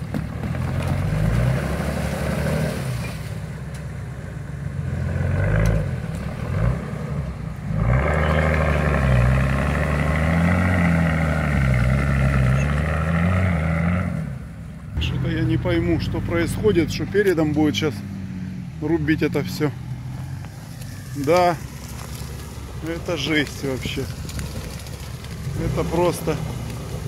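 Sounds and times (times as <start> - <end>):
suv engine labouring and revving: 0.0 - 27.0.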